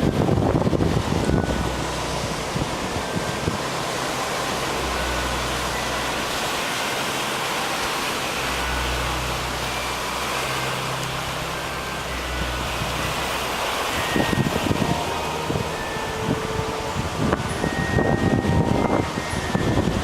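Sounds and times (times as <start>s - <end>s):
wind buffeting microphone: 0.0s - 7.5s, 11.3s - 20.0s
waves breaking: 0.0s - 20.0s.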